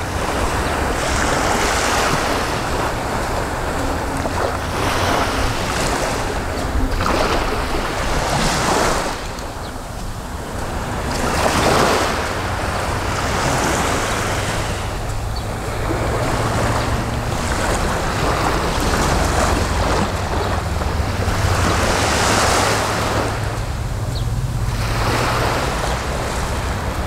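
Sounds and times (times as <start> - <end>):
small waves washing onto shore: 0.0 - 27.0
wind rumble on microphone: 0.0 - 27.0.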